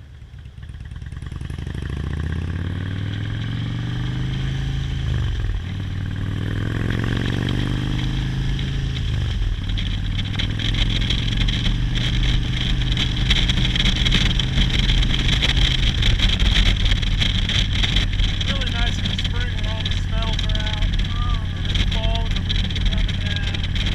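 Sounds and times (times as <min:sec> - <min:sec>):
motorcycle engine accelerating: 0:00.0 - 0:23.9
rushing wind noise: 0:02.6 - 0:23.9.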